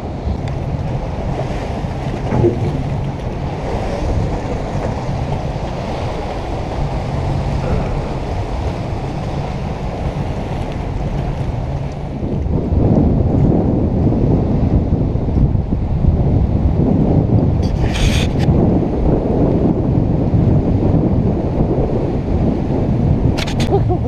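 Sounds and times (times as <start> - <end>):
rushing water: 0.0 - 15.9, 17.5 - 24.0
boat engine low hum: 0.0 - 24.0
wind buffeting microphone: 0.0 - 24.0.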